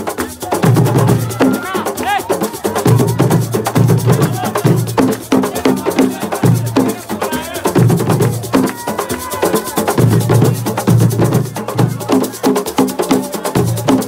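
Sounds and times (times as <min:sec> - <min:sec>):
heavy low drum beats: 0:00.0 - 0:14.0.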